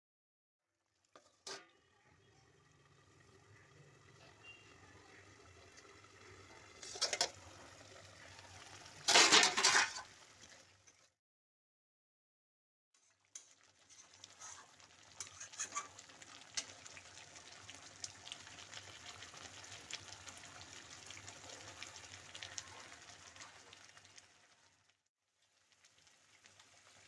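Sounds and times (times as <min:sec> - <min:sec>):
paste frying with pops and spits: 0:00.7 - 0:11.2, 0:13.0 - 0:27.0.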